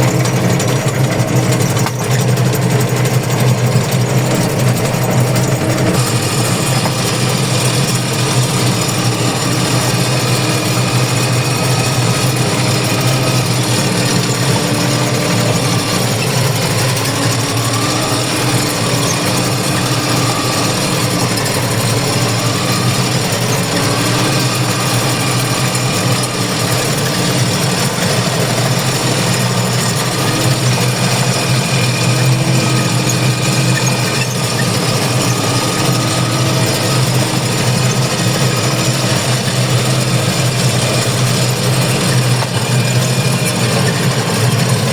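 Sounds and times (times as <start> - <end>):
machinery engine running with whine: 0.0 - 44.9.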